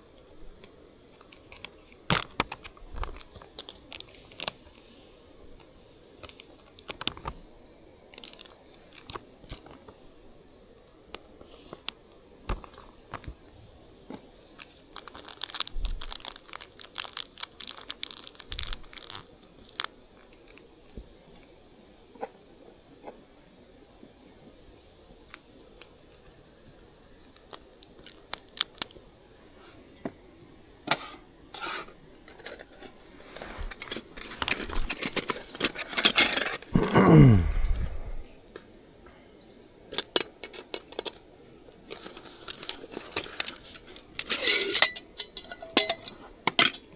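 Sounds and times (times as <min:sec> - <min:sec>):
rustling and crinkling: 0:00.0 - 0:07.5, 0:08.1 - 0:10.2, 0:11.1 - 0:30.2, 0:30.9 - 0:38.6, 0:40.9 - 0:46.9.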